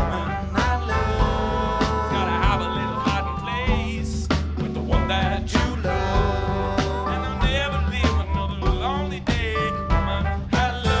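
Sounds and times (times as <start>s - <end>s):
drum hits: 0.0s - 11.0s
funk band playing: 0.0s - 11.0s.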